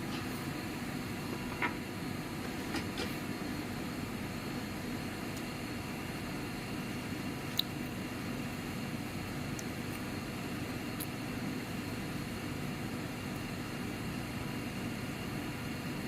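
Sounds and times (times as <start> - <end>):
lab equipment humming: 0.0 - 16.0.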